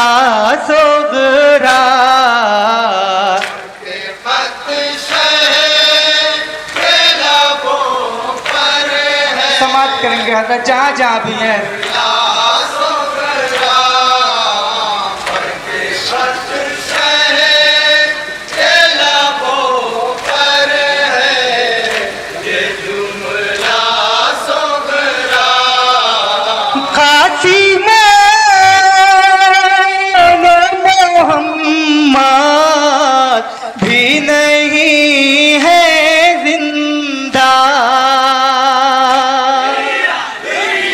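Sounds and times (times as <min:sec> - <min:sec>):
man singing into a microphone: 0:00.0 - 0:40.4
men chanting a lament: 0:00.0 - 0:40.9.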